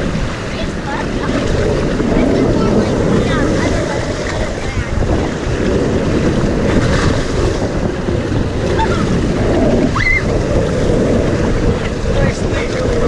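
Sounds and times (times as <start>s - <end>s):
rushing splashing water: 0.0s - 13.0s
wind buffeting microphone: 0.0s - 13.0s.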